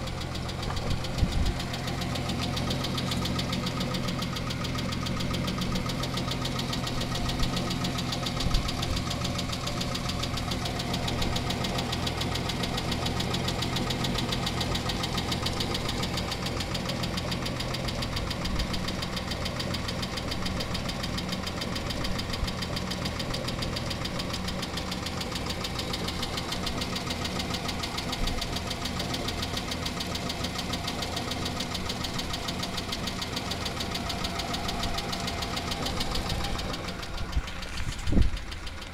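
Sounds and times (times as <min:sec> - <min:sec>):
car engine running with knock: 0:00.0 - 0:38.9.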